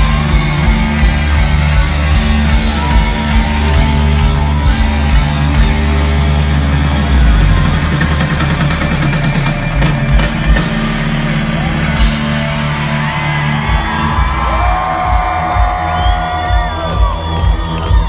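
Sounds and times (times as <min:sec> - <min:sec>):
crowd whooping and whistling: 0:00.0 - 0:10.7, 0:11.4 - 0:18.0
rock band playing: 0:00.0 - 0:18.0.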